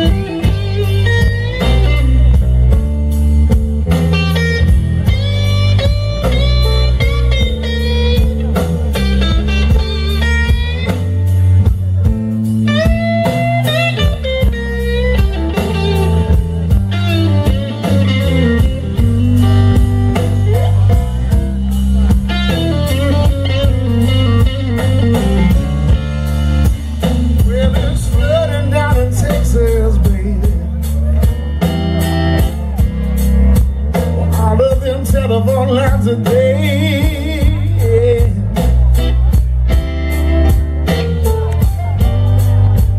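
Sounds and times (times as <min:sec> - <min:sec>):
bass guitar: 0:00.0 - 0:42.9
drum kit: 0:00.0 - 0:42.9
electric guitar lead lines: 0:00.0 - 0:42.9.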